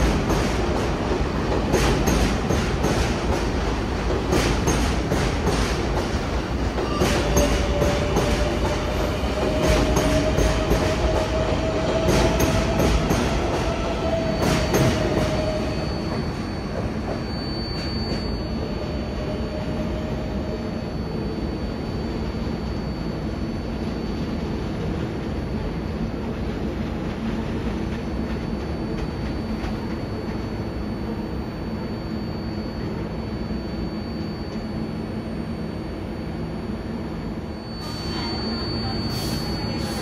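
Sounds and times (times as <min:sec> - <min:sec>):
subway train wheels clicking: 0:00.0 - 0:40.0.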